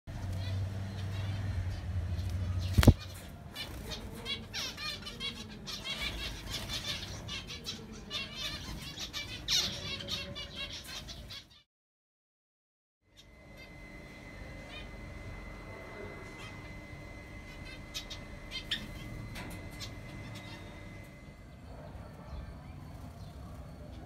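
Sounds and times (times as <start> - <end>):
finches chirping: 0.3 - 11.6, 13.1 - 24.0.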